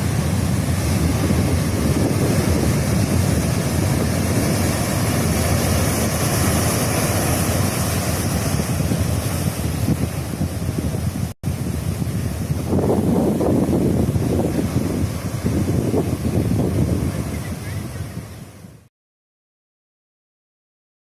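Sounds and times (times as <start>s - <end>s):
surf breaking on a beach: 0.0s - 18.9s
wind on microphone: 0.0s - 18.9s.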